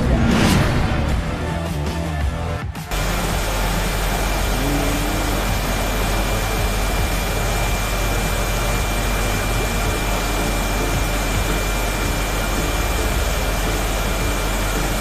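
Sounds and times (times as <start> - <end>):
churned water hiss: 2.9 - 15.0
machinery low hum: 2.9 - 15.0
thin high whine: 2.9 - 15.0.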